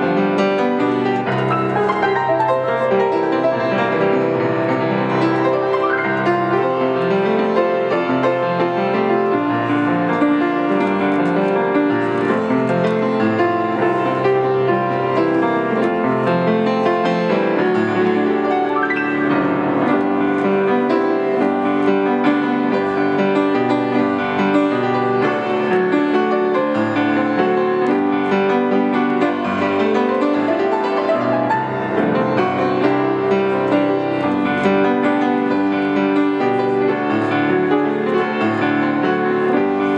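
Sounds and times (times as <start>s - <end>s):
grand piano playing a hymn: 0.0s - 39.9s.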